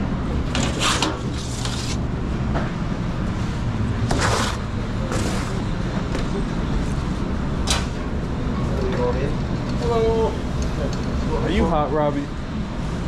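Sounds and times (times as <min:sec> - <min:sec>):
low hum of kitchen machinery: 0:00.0 - 0:13.0.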